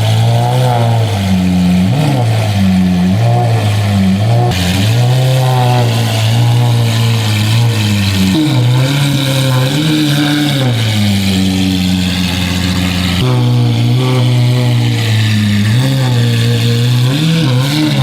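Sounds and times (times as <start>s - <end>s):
sports car engine idling: 0.0s - 18.0s.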